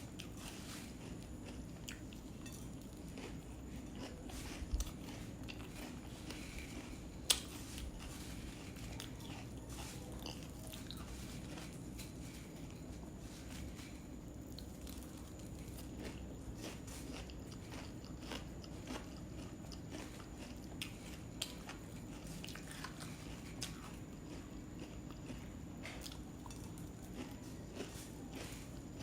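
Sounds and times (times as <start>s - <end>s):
low steady hum: 0.0s - 29.0s
person chewing puffed rice: 0.0s - 29.0s.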